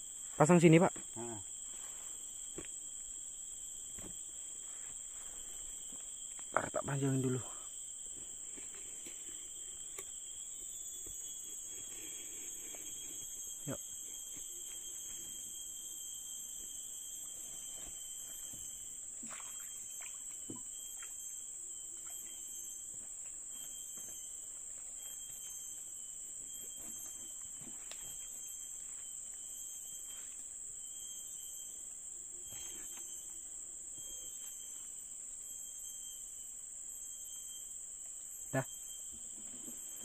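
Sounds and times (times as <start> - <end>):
forest insects droning: 0.0 - 40.0.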